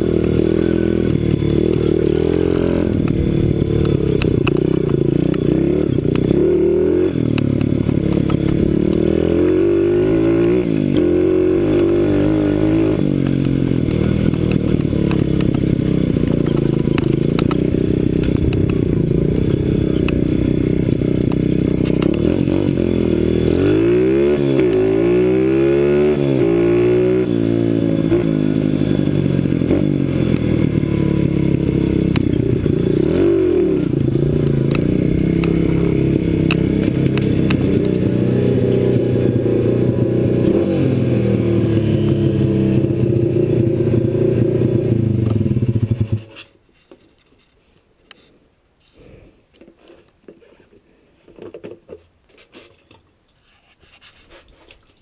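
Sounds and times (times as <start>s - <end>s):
pit bike engine revving: 0.0s - 46.3s.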